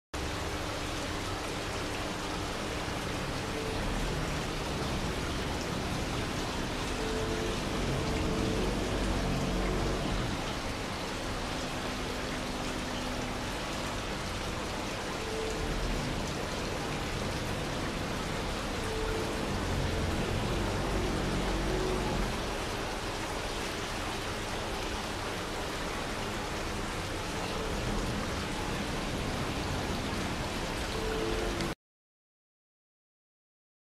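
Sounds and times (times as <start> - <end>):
fountain water splashing into basin: 0.2 - 31.8.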